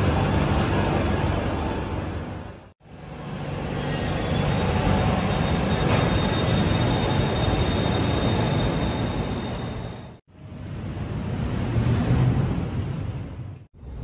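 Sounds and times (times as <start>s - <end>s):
train running and rumbling: 0.0s - 14.0s.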